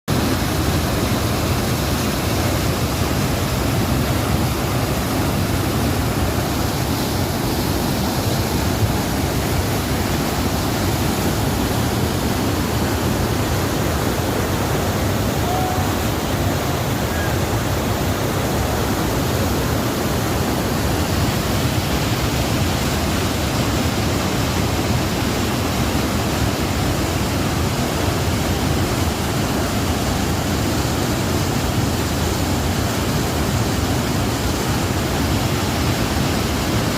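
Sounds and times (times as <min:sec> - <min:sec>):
river water rushing: 0:00.1 - 0:36.9.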